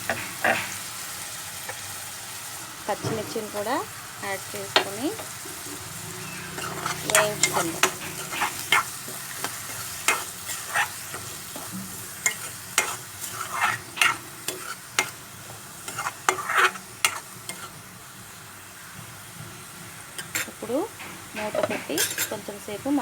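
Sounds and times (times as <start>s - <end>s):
spoon scraping and knocking pan: 0.0s - 1.0s, 2.9s - 17.8s, 20.2s - 22.6s
food sizzling in oil: 0.0s - 23.0s.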